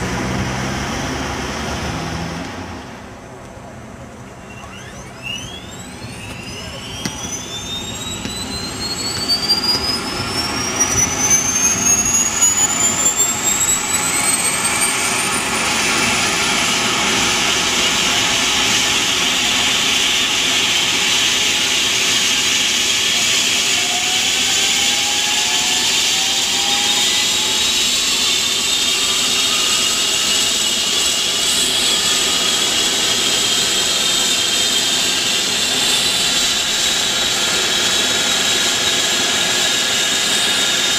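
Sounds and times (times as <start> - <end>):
helicopter turbine whine: 0.0 - 40.9.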